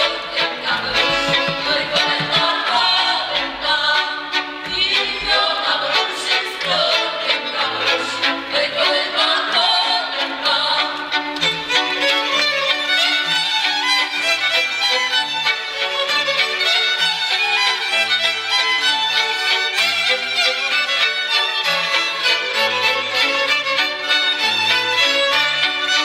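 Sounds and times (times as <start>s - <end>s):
fiddles playing quick melody: 0.0s - 26.0s.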